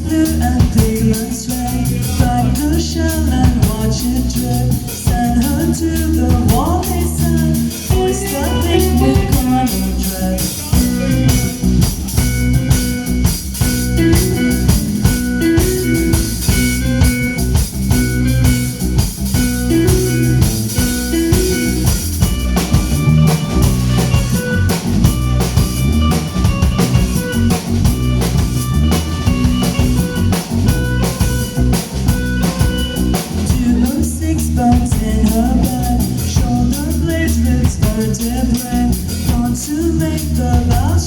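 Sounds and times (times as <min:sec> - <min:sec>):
bass: 0:00.0 - 0:41.0
drum kit: 0:00.0 - 0:41.0
electric guitar: 0:00.0 - 0:41.0.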